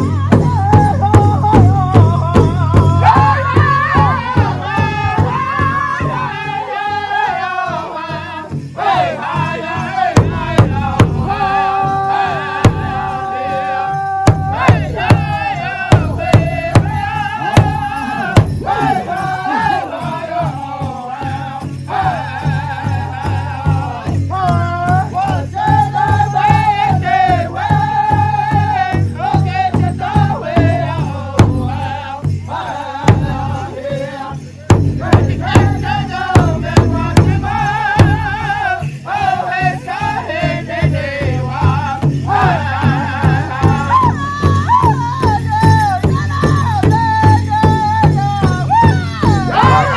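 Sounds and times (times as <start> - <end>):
large drum beats: 0.0 - 49.9
singers in high voices: 0.0 - 49.9.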